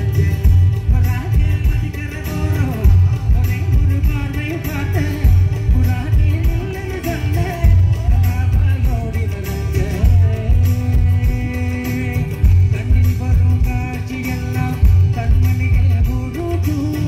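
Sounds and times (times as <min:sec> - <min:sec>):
heavy bass beat: 0:00.0 - 0:17.0
live band playing loud music: 0:00.0 - 0:17.0
person singing: 0:00.0 - 0:17.0.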